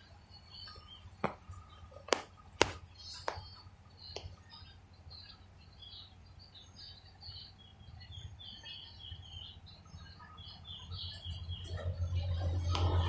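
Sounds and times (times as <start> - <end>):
faint low hum: 0.0 - 13.0
small birds chirping: 0.0 - 13.0.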